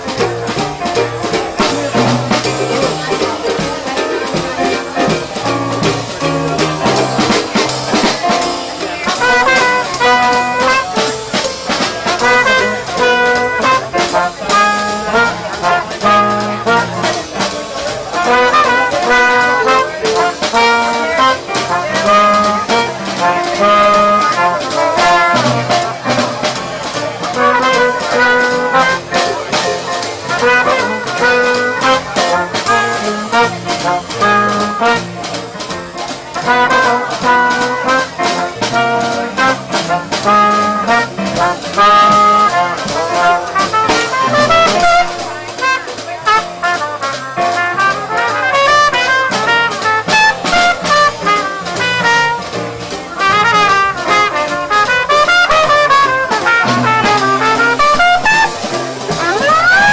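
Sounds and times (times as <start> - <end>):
climbing brass run: 0.0 - 59.9
small jazz band playing: 0.0 - 59.9.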